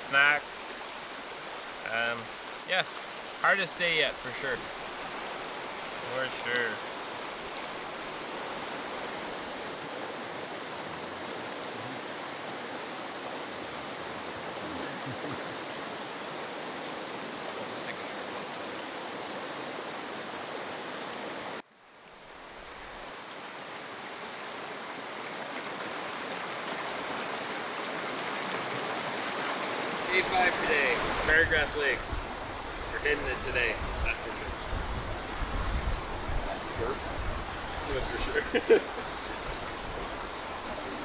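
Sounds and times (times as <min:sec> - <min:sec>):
river water rushing: 0:00.0 - 0:41.0.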